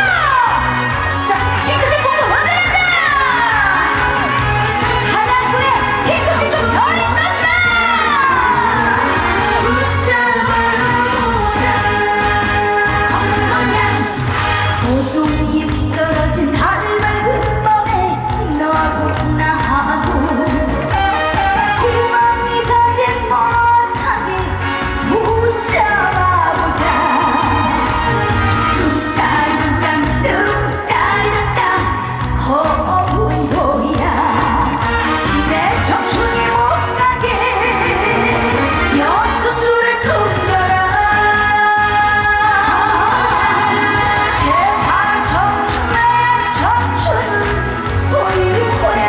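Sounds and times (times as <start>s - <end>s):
backing music with steady beat: 0.0s - 49.0s
woman singing: 0.0s - 49.0s.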